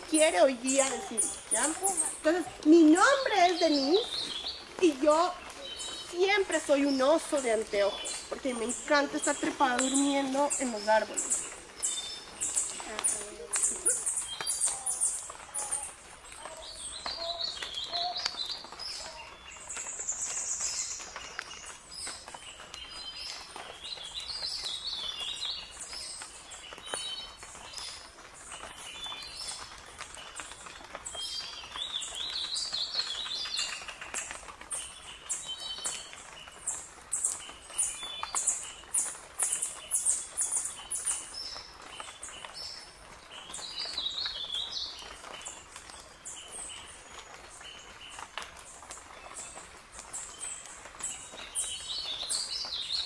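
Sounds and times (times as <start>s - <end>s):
birds chirping and calling: 0.0s - 53.0s.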